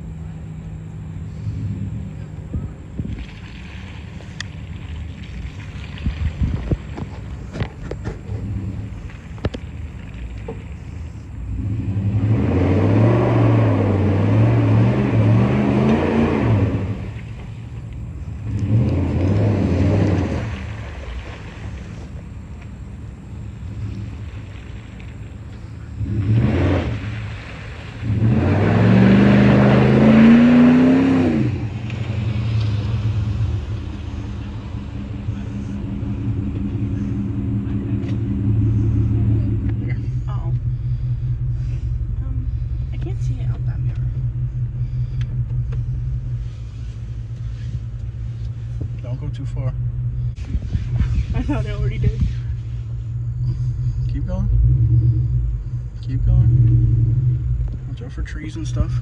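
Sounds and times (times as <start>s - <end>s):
car exhaust rumbling and revving: 0.0s - 59.0s.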